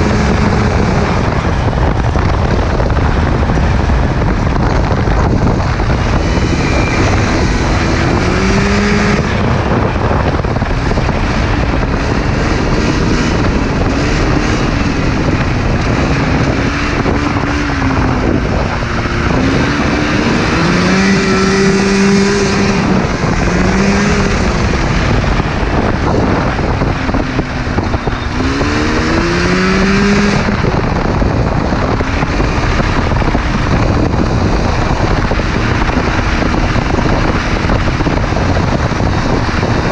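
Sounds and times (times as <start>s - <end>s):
go-kart engine revving: 0.0s - 39.9s
wind rush over microphone: 0.0s - 39.9s.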